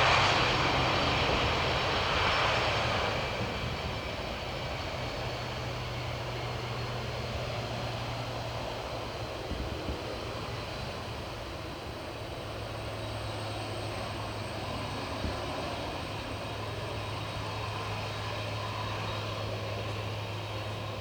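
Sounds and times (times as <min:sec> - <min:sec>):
distant aircraft engines rumbling: 0:00.0 - 0:21.0.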